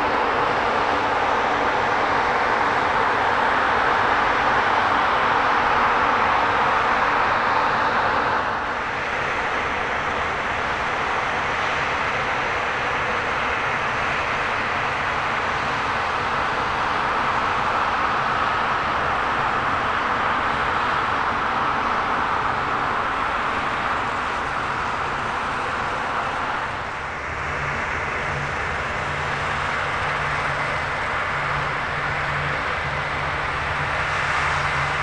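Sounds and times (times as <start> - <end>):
combine harvester drone: 0.0 - 35.0.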